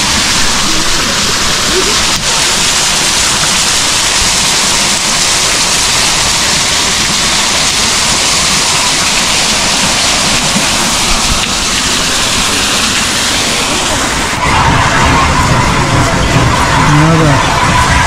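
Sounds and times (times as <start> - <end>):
water rushing off waterwheel: 0.0 - 18.0.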